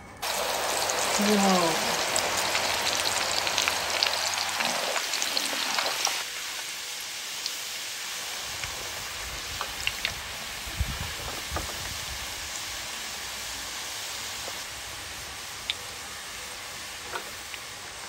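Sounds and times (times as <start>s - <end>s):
hot oil sizzling and crackling: 0.2s - 18.0s.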